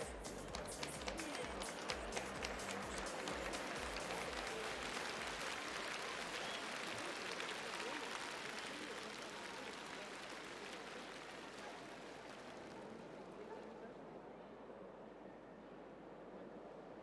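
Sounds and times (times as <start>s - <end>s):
audience applause: 0.0s - 13.7s
low crowd murmur: 0.0s - 17.0s.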